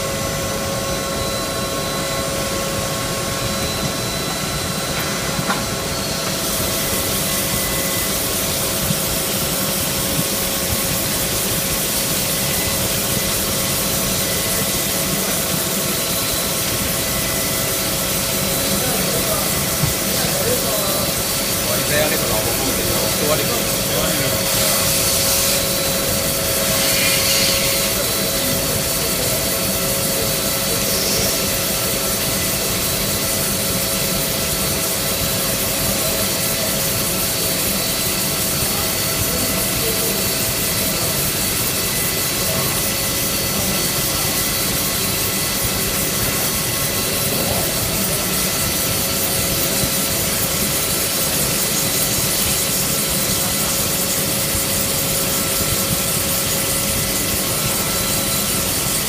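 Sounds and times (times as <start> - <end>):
grinder hiss and whine: 0.0 - 59.0.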